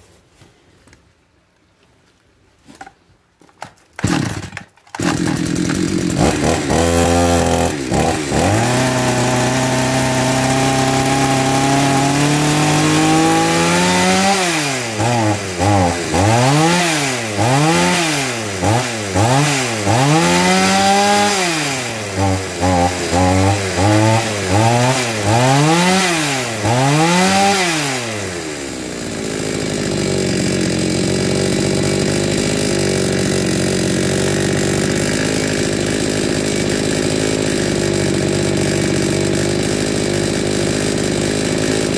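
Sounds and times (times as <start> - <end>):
chainsaw idling and revving: 3.9 - 41.9.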